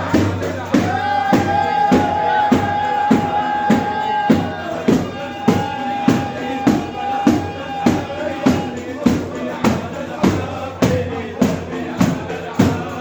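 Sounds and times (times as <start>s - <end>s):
frame drums beating: 0.0s - 13.0s.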